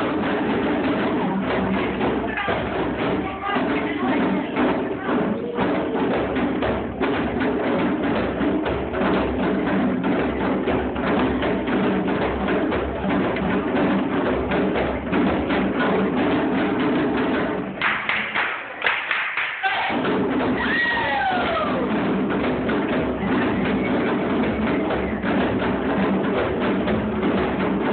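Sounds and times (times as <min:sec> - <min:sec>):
djembe drums playing: 0:00.0 - 0:18.6, 0:19.7 - 0:27.9.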